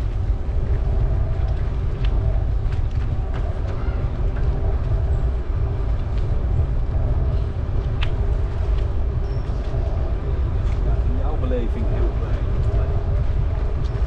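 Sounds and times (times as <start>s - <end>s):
bicycle tyres rolling on path: 0.0s - 14.0s
wind on microphone: 0.0s - 14.0s.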